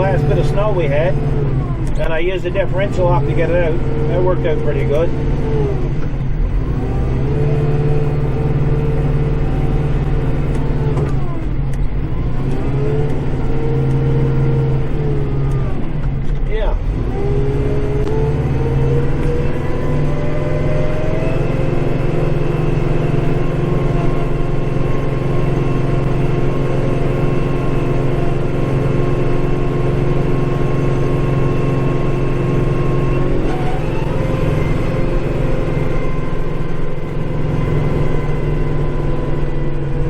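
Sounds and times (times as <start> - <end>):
engine whine: 0.0 - 40.0
tractor engine running under load: 0.0 - 40.0.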